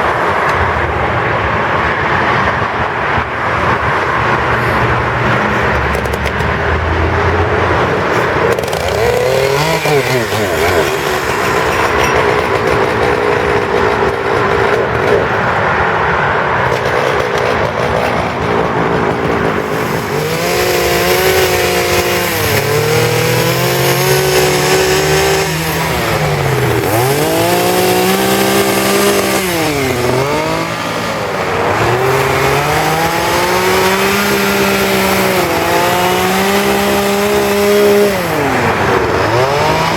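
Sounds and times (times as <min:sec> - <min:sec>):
chainsaw cutting wood: 0:04.7 - 0:15.8, 0:16.6 - 0:39.9.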